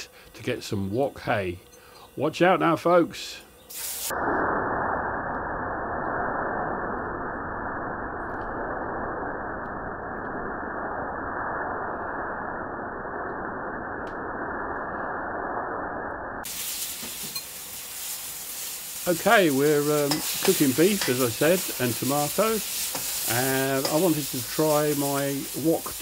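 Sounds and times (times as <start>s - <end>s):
wok sizzling: 0.6s - 26.0s.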